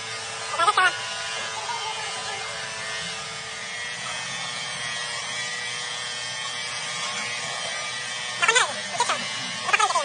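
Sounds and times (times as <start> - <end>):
angle grinder polishing metal: 0.0 - 10.0.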